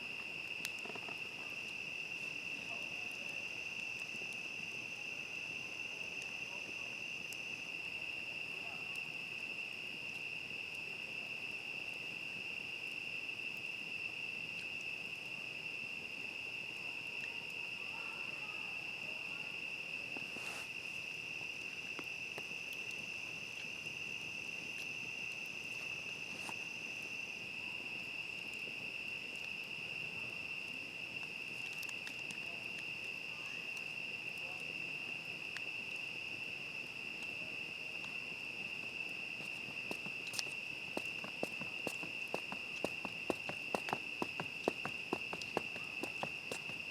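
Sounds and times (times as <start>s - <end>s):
campfire crackles: 0.0s - 46.9s
crickets chirping: 0.0s - 46.9s
high insect tone: 9.2s - 46.9s.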